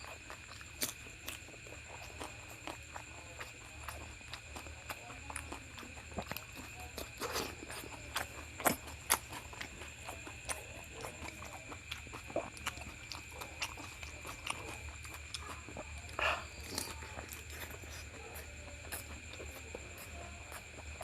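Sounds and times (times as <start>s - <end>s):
chewing and mouth smacking: 0.0s - 21.0s.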